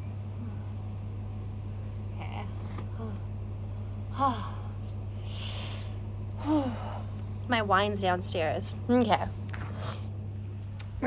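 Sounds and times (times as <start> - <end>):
crickets chirring: 0.0 - 11.0
low hum: 0.0 - 11.0.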